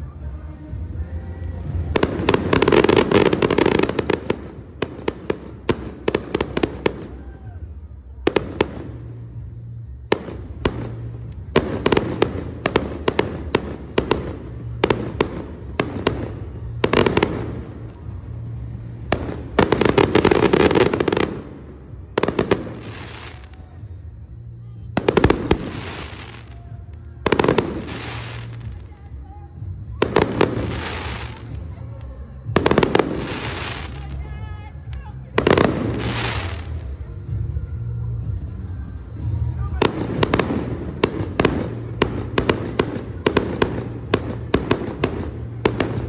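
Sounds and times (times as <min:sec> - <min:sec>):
rapid firework crackling: 0:01.6 - 0:07.5, 0:08.3 - 0:23.8, 0:24.4 - 0:29.1, 0:29.9 - 0:37.4, 0:39.2 - 0:46.0.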